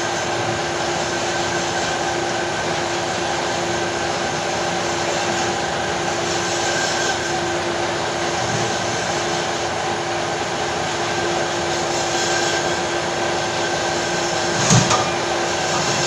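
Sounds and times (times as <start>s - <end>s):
workshop machine humming and whirring: 0.0s - 16.0s.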